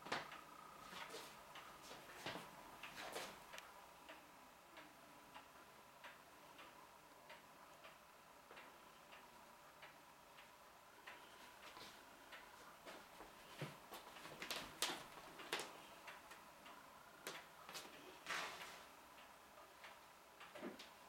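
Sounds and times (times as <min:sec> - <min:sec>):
faint steady high hum: 0:00.0 - 0:21.0
faint regular ticking: 0:00.1 - 0:21.0.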